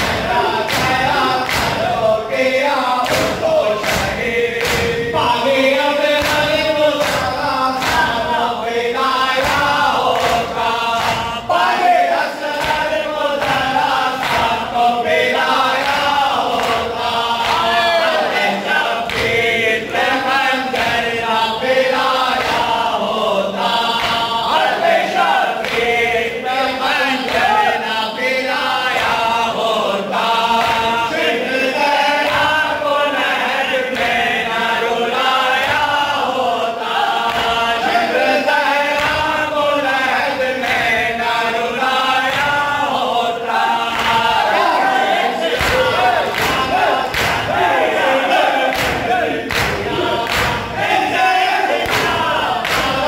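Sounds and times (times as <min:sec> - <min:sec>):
men chanting in unison: 0:00.0 - 0:53.0.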